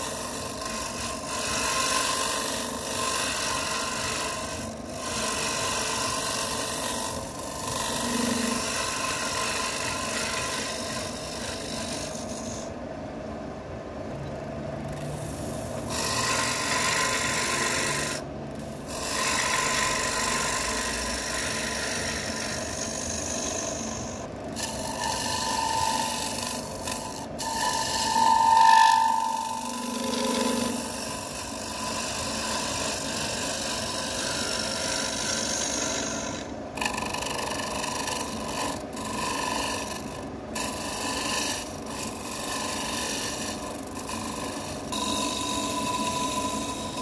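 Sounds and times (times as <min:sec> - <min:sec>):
lathe tool scraping spinning wood: 0:00.0 - 0:12.8, 0:14.8 - 0:47.0.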